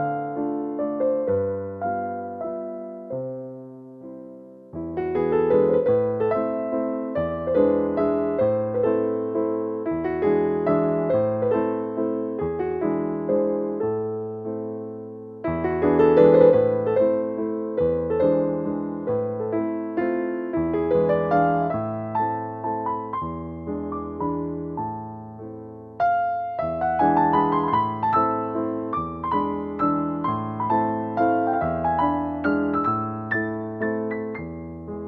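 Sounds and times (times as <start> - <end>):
gentle piano music with bass: 0.0 - 35.0.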